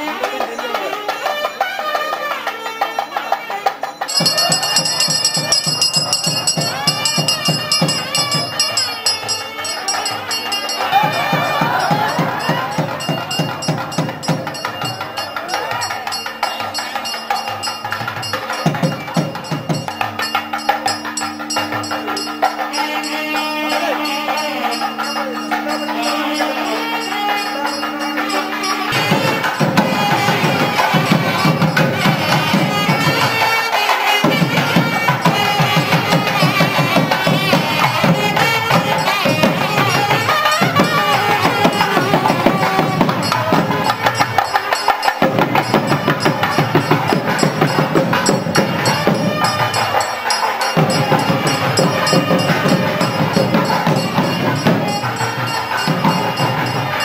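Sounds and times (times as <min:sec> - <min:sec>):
drums: 0:00.0 - 0:57.0
small cymbals: 0:03.9 - 0:57.0
reed pipe melody: 0:04.0 - 0:57.0.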